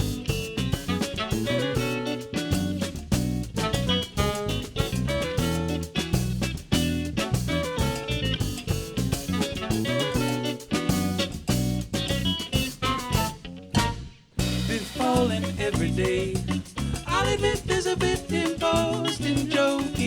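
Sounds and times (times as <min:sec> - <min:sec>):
live band playing instrumental: 0:00.0 - 0:20.0.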